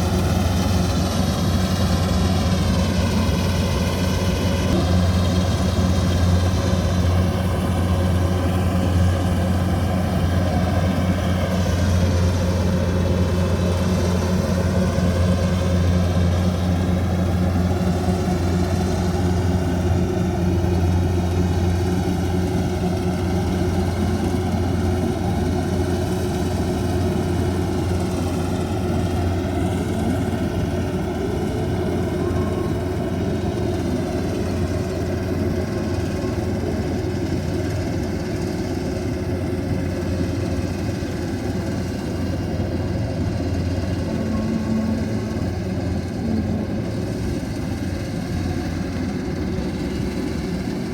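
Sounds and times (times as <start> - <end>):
combine harvester engine running: 0.0 - 50.9.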